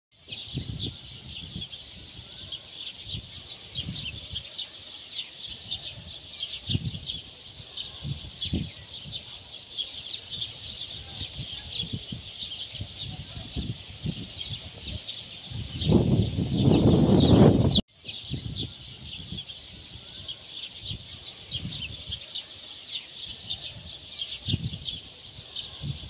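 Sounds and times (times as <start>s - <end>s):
small birds chirping: 0.1s - 26.0s.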